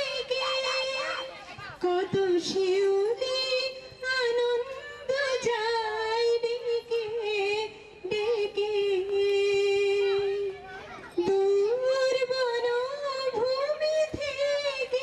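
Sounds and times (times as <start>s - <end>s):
woman singing into microphone: 0.0s - 10.6s, 11.2s - 15.0s.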